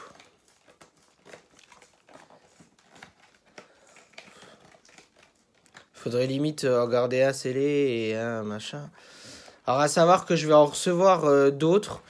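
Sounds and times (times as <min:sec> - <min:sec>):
cardboard crackling and crinkling: 0:00.0 - 0:08.8, 0:09.5 - 0:12.0.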